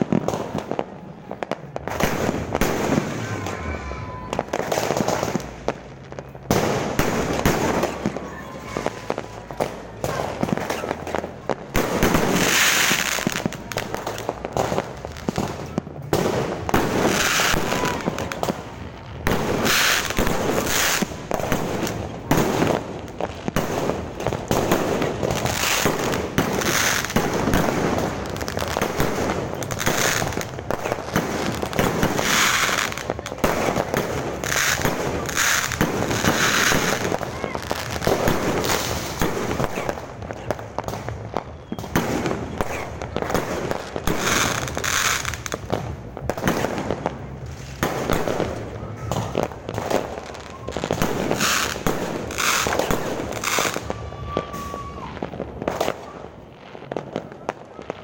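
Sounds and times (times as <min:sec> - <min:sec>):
fireworks bangs: 0:00.0 - 0:58.0
fireworks crackling and hissing: 0:00.0 - 0:58.0.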